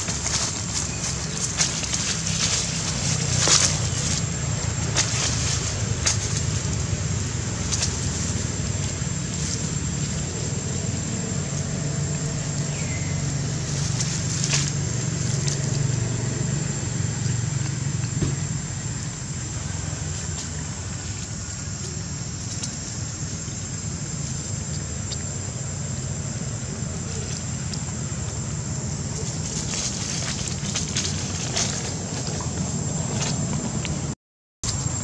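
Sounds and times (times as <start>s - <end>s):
dry leaves crackling: 0.0s - 35.0s
steady low rumble: 0.0s - 35.0s.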